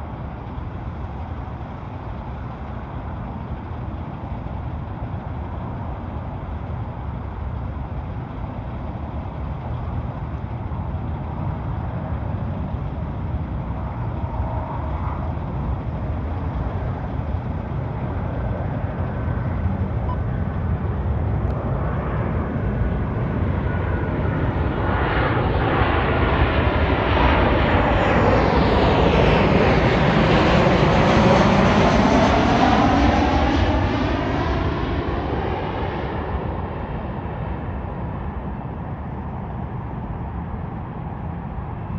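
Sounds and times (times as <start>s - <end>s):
jet engines whooshing pass: 0.0s - 41.9s.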